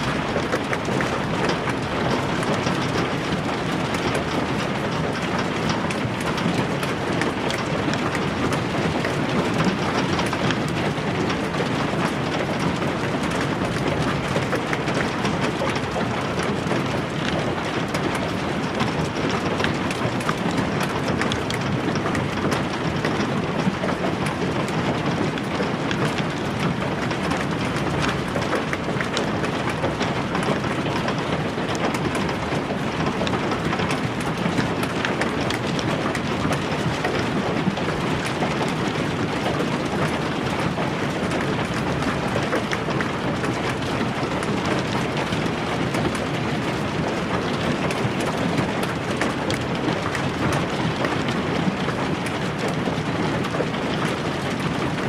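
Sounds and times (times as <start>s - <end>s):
hailstones clattering: 0.0s - 55.0s.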